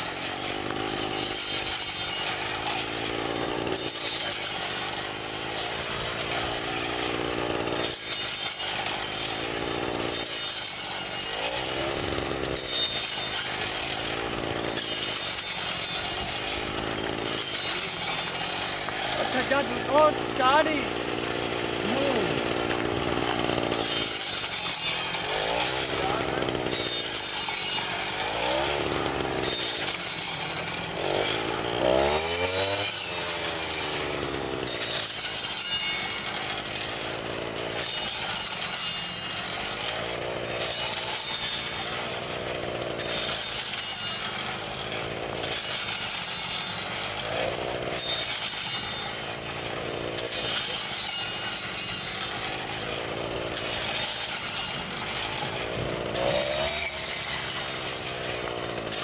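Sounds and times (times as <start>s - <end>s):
brush cutter engine under load: 0.0s - 59.0s.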